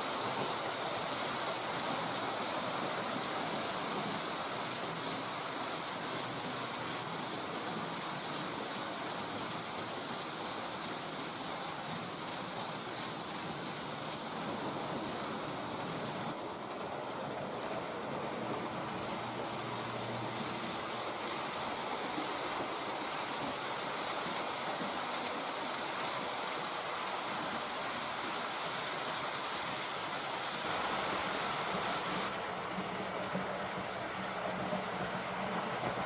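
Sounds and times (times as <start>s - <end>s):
model train whirring on track: 0.0s - 36.0s.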